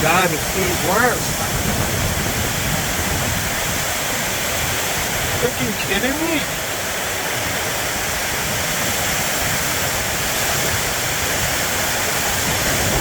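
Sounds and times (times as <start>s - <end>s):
heavy rain on a metal roof: 0.0s - 13.0s.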